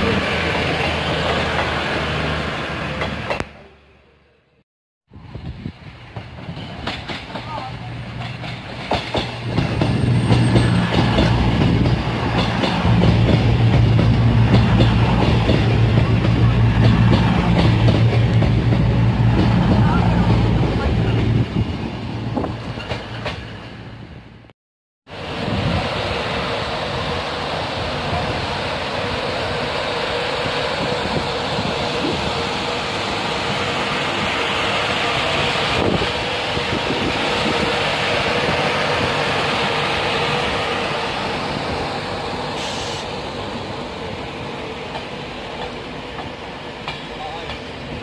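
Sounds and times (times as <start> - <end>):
train rushing past on rails: 0.0 - 3.9, 5.1 - 24.5, 25.1 - 48.0
diesel train engines running: 5.2 - 24.5, 25.1 - 48.0.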